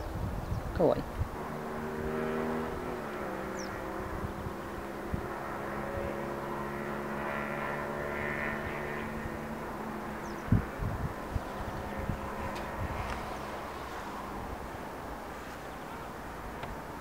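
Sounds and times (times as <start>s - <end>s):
engine drone: 1.2s - 17.0s.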